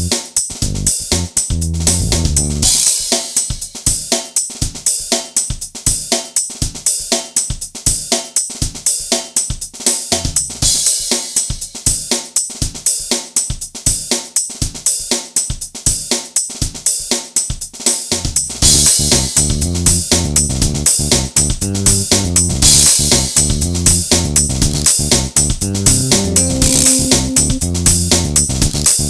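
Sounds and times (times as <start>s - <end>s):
background music with drum beat: 0.0s - 29.0s.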